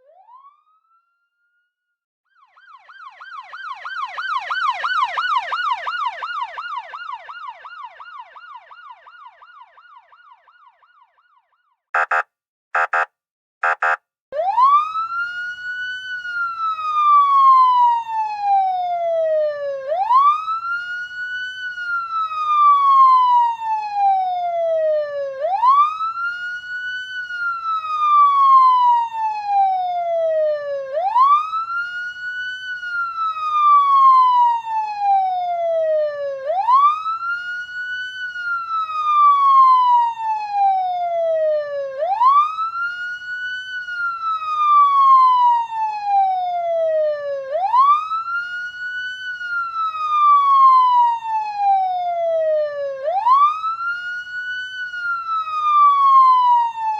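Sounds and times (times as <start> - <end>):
police siren wailing: 0.0 - 12.2, 12.8 - 56.9.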